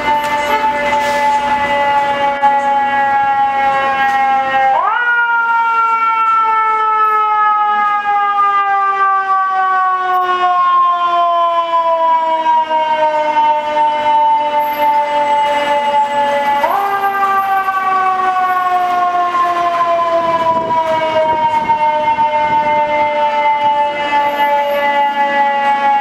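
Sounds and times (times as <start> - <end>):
fire engine mechanical siren: 0.0 - 26.0.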